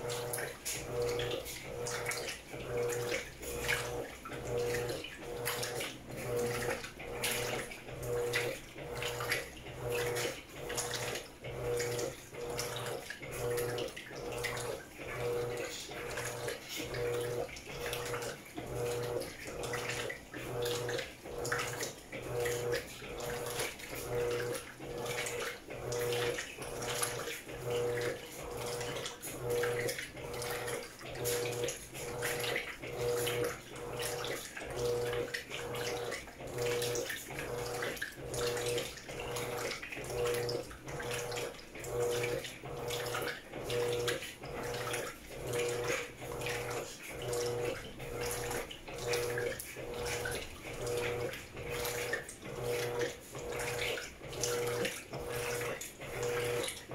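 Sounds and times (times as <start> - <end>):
washing machine motor hum pulsing: 0.0 - 56.9
water sloshing: 0.0 - 56.9.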